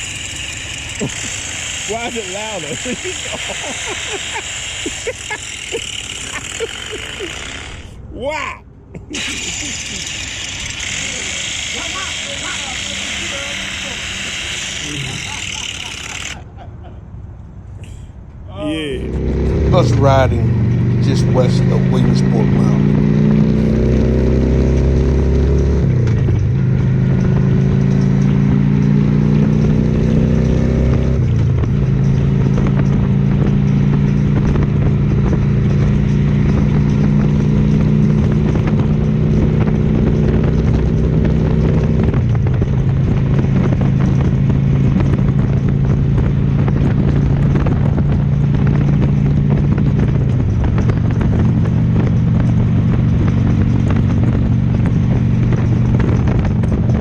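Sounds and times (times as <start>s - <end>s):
motorcycle engine shifting gears: 0.0s - 8.0s, 9.0s - 57.0s.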